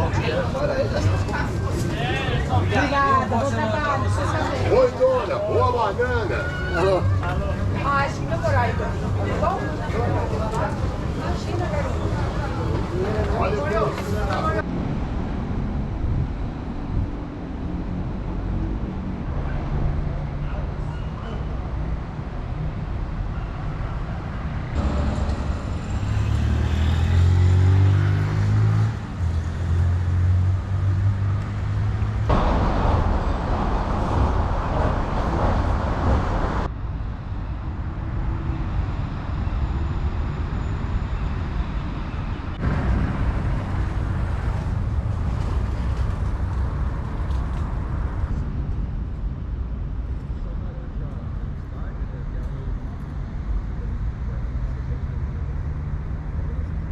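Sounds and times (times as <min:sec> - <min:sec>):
vehicle engine hum: 0:00.0 - 0:56.9
vehicles passing: 0:00.0 - 0:56.9.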